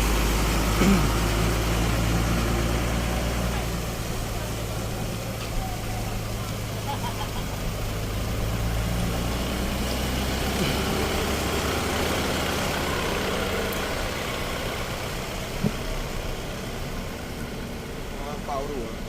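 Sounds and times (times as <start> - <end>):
farm machinery diesel engine: 0.0 - 19.0.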